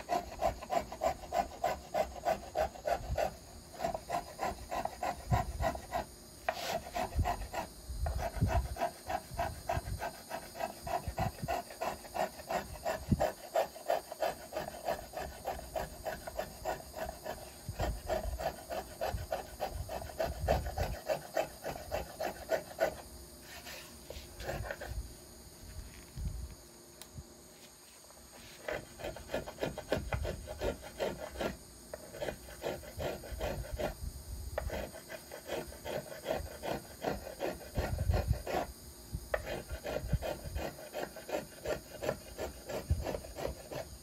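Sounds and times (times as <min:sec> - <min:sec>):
finger plane shaving wood: 0:00.0 - 0:25.0, 0:28.3 - 0:34.0, 0:34.6 - 0:38.7, 0:39.3 - 0:44.0.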